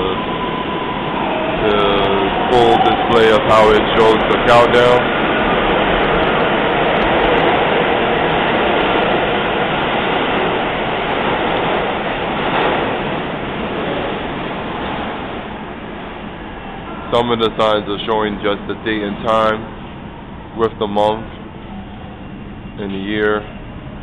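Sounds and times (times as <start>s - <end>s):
subway train rumble and rattle: 0.0s - 24.0s.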